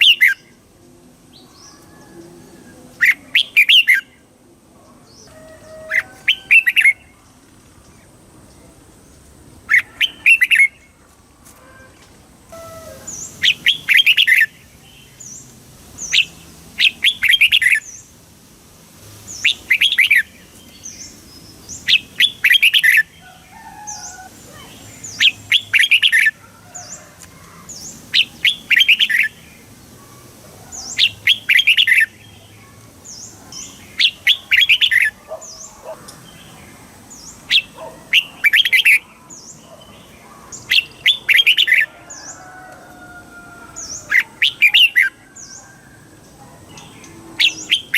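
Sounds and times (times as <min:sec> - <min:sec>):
bird singing chirping phrases: 0:00.0 - 0:11.0, 0:11.8 - 0:18.2, 0:19.2 - 0:42.6, 0:43.4 - 0:47.9.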